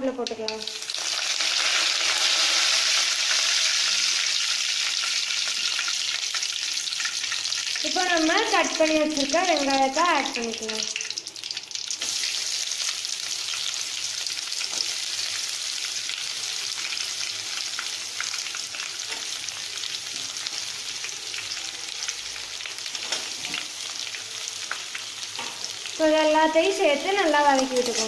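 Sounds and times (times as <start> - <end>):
onions sizzling in hot oil: 0.1 - 28.0.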